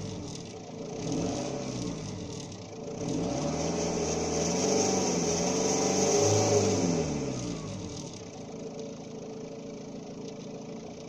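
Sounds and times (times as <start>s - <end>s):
diesel car engine revving: 0.0s - 8.9s.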